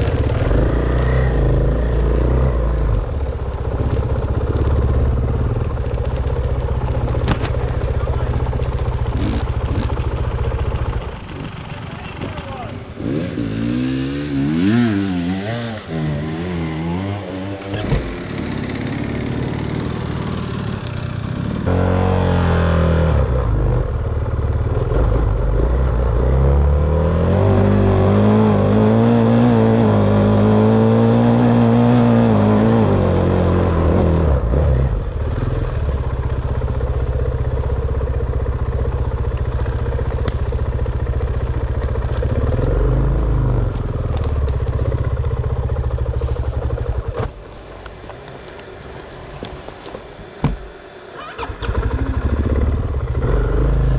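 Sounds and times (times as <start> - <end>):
dirt bike engine revving: 0.0 - 6.0, 6.9 - 23.9, 24.7 - 36.1, 36.9 - 47.5, 51.0 - 53.9.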